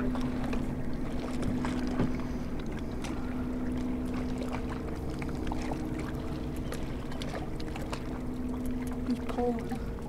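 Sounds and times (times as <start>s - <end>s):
boat motor running steadily: 0.0s - 10.0s.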